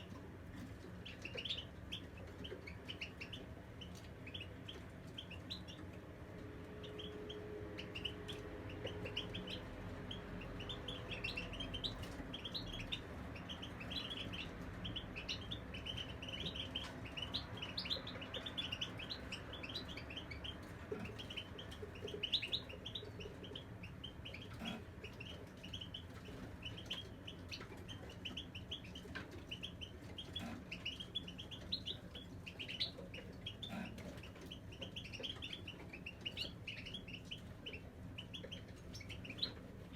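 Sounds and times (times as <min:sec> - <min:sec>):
finches chirping and twittering: 0:01.0 - 0:06.0, 0:06.7 - 0:39.9.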